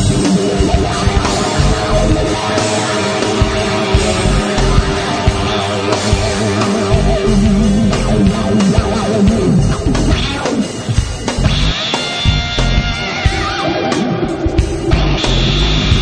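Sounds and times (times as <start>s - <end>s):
electric guitar rock music: 0.0s - 16.0s
steady drum beat: 0.0s - 16.0s.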